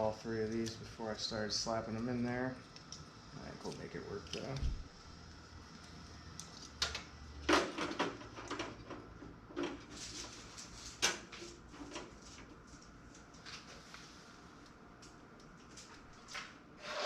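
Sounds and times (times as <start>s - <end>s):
clicks and clatter of computer fans: 0.4s - 1.0s, 2.0s - 16.6s.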